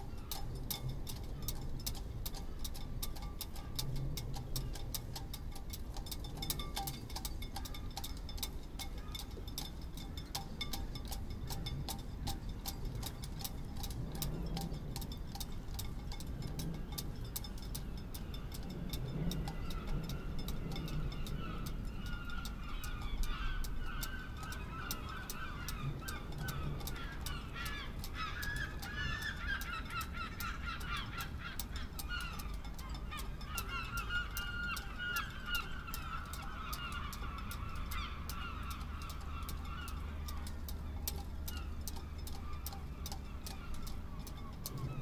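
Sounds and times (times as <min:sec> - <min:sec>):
low wind rumble: 0:00.0 - 0:45.0
water birds calling: 0:00.0 - 0:45.0.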